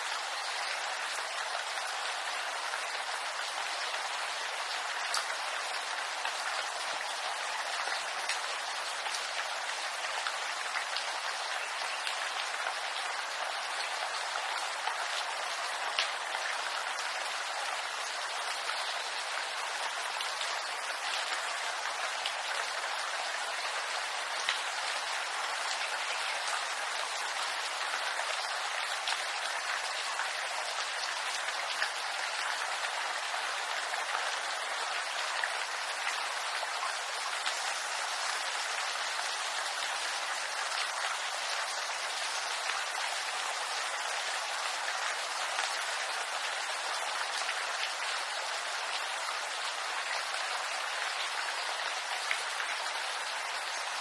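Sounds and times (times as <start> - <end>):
rain pattering in bamboo: 0.0 - 54.0.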